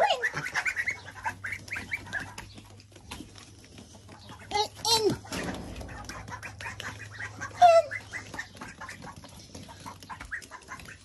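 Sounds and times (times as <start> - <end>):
ducks quacking and chattering: 0.0 - 11.0.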